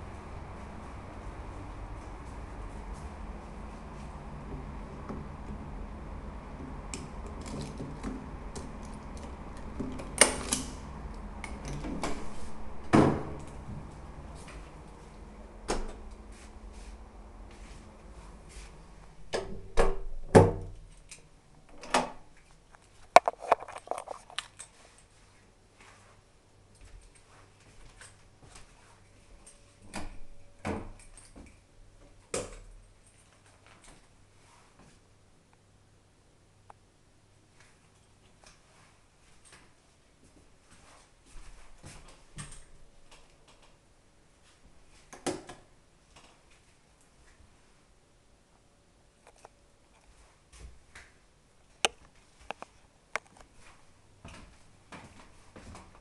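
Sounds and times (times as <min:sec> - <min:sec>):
low steady hum: 0:00.0 - 0:45.1.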